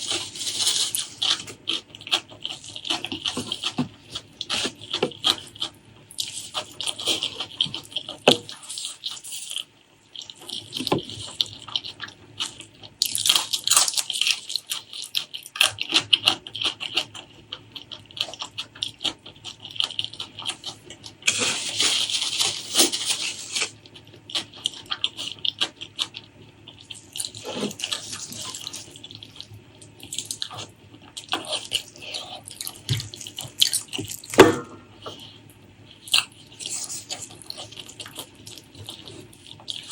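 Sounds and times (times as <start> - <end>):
wet chewing and lip-smacking: 0.0 - 39.9.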